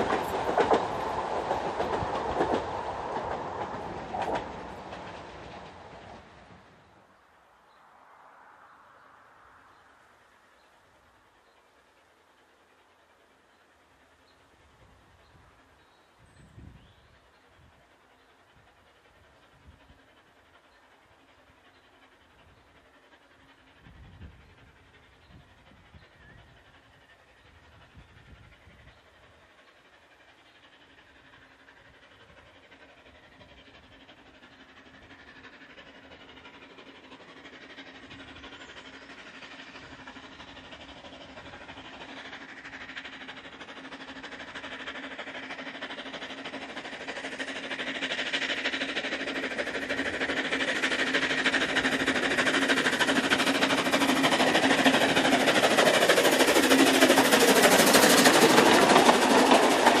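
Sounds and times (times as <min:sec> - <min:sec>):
steam locomotive chuffing: 0:00.0 - 0:07.2, 0:09.5 - 1:00.0.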